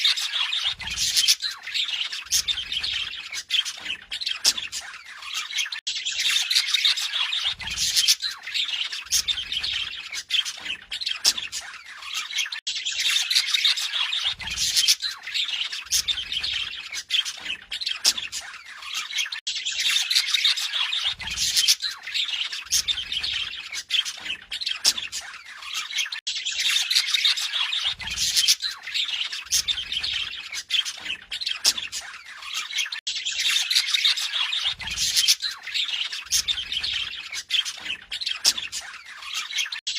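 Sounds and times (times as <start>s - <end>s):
budgerigar warbling and chattering: 0.0s - 39.8s.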